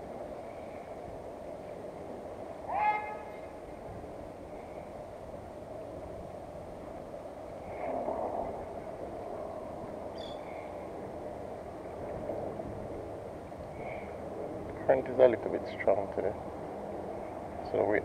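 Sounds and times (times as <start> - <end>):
road traffic hum: 0.0 - 18.0.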